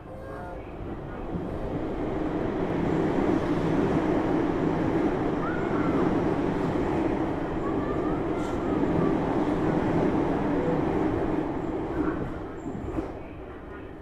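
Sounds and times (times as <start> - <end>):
train rumble on rails: 0.0 - 14.0.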